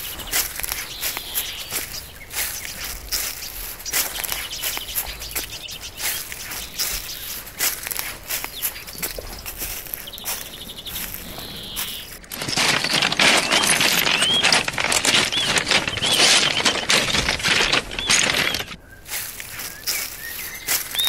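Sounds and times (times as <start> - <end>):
bird trill: 0.0 - 12.2, 13.5 - 21.0
footsteps crunching on gravel: 0.0 - 21.0.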